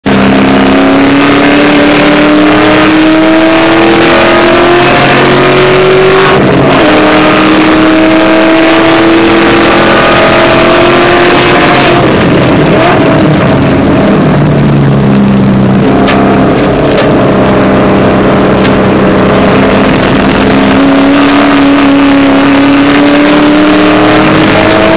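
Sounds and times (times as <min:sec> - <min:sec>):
car engine at full throttle: 0:00.0 - 0:24.9.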